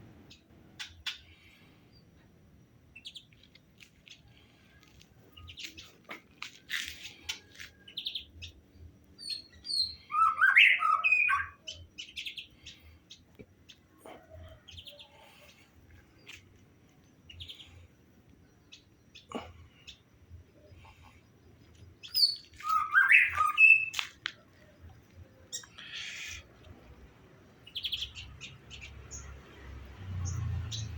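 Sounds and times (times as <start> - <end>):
birds chirping and calling: 2.9 - 16.5, 17.1 - 30.9.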